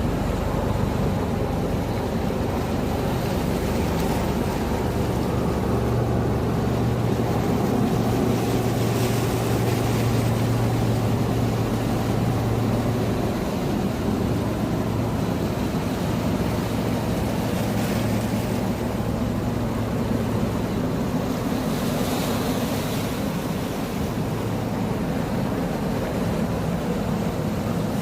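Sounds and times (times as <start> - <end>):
sea waves rushing: 0.0 - 28.0
wind: 0.0 - 28.0.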